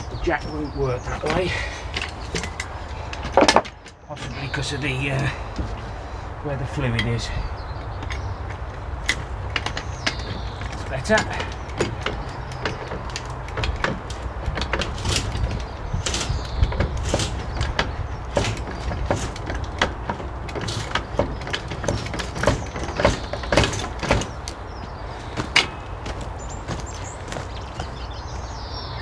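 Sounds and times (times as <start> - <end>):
hydraulic jack clicks and knocks: 1.2 - 4.4, 7.9 - 28.0.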